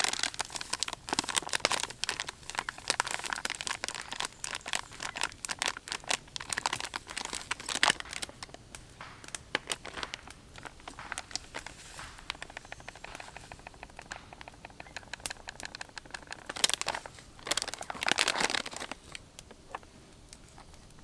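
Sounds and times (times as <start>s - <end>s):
crinkling and crackling: 0.0s - 21.0s.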